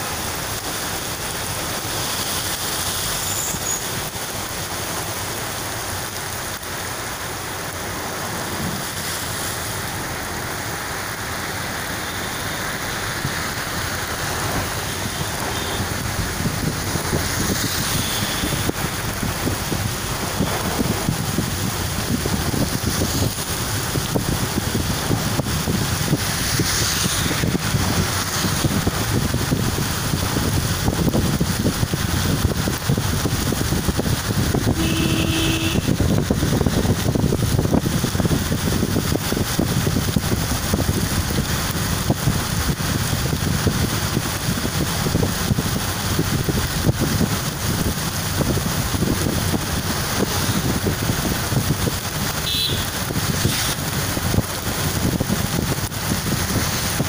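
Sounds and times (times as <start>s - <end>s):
vehicle road noise on wet road: 0.0s - 57.0s.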